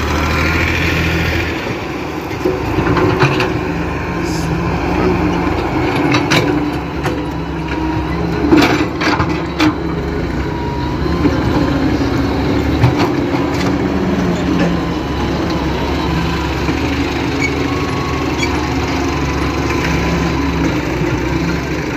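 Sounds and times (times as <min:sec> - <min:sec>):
excavator diesel engine under load: 0:00.0 - 0:21.9.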